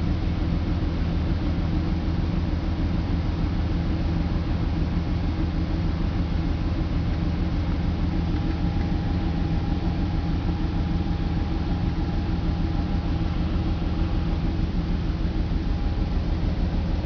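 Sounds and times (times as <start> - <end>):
car engine idling: 0.0 - 17.0
faint steady whine: 0.0 - 17.0.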